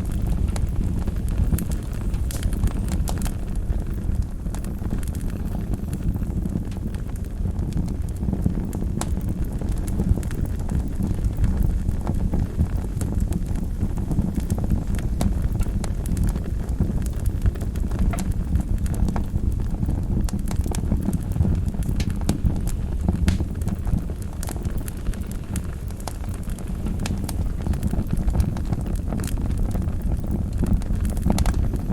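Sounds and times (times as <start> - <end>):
burning wood popping and crackling: 0.0 - 31.9
wood fire burning: 0.0 - 31.9.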